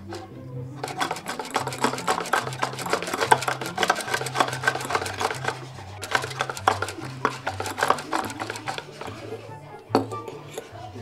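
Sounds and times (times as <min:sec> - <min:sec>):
whisk scraping ceramic bowl: 0:00.0 - 0:11.0.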